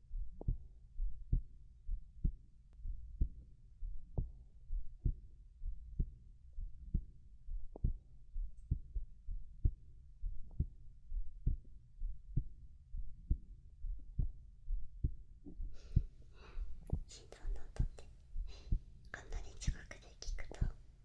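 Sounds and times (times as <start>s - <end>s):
faint low rumble: 0.0s - 21.0s
heartbeat thumps: 0.1s - 20.8s.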